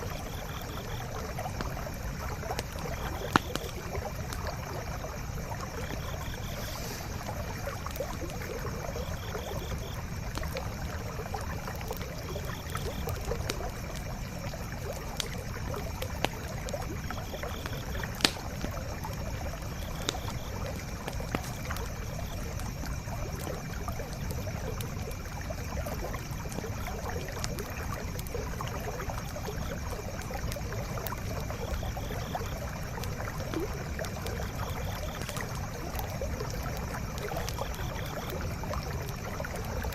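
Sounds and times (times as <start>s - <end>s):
campfire crackling and popping: 0.0s - 39.9s
stream running: 0.0s - 39.9s.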